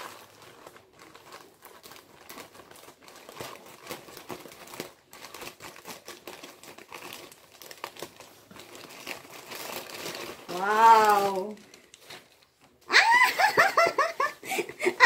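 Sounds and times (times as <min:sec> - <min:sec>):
gift packaging crinkling: 0:00.0 - 0:15.0.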